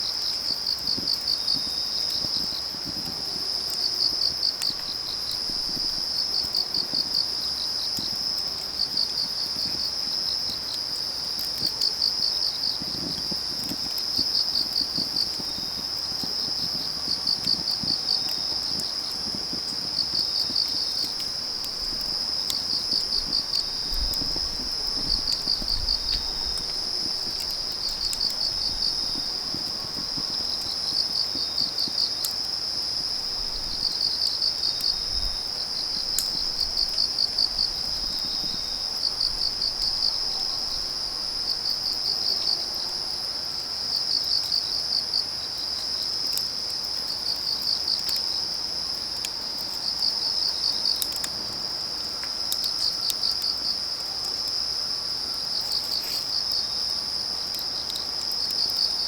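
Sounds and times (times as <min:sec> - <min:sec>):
cricket chirping: 0:00.0 - 0:59.0
insects trilling: 0:00.0 - 0:59.0
firewood crackling: 0:00.1 - 0:59.0.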